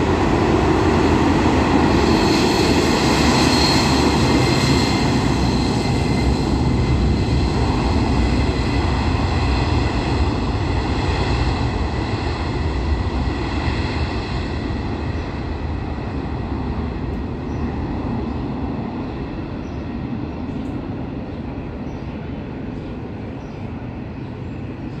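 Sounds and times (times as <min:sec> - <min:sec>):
high jet engine whine: 0:00.0 - 0:25.0
jet engines roaring: 0:00.0 - 0:25.0.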